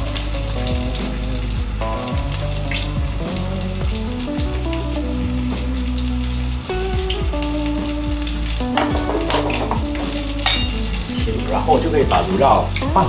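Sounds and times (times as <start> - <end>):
fish sizzling in hot oil: 0.0 - 13.0
oil crackling: 0.0 - 13.0.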